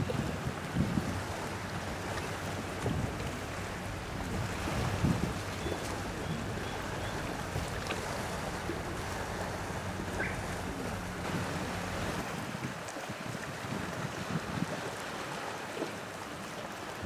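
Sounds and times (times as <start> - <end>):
ship engine hum: 0.0 - 14.0, 14.8 - 17.0
sea waves: 0.0 - 17.0
wind: 0.0 - 17.0.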